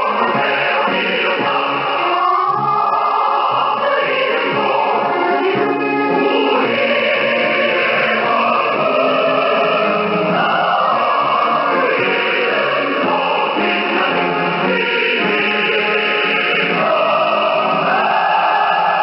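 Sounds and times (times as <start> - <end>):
choir singing on shortwave radio: 0.0 - 19.0.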